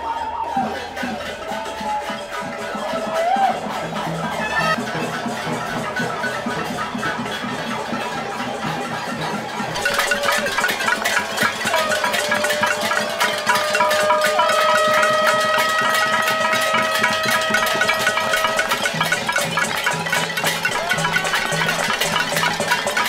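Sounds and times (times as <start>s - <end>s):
crowd banging pots and pans: 0.0s - 23.0s
crowd clapping: 0.0s - 23.0s.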